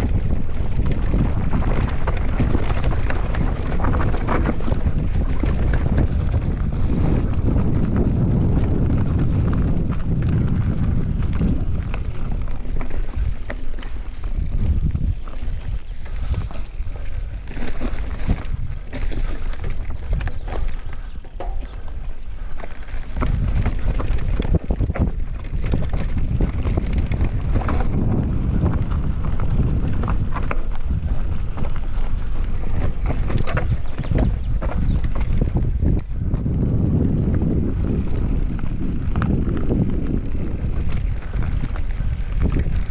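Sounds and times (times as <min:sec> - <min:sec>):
bike chain and parts rattling: 0:00.0 - 0:42.9
tyres on rocky dirt trail: 0:00.0 - 0:42.9
wind buffeting microphone: 0:00.0 - 0:42.9.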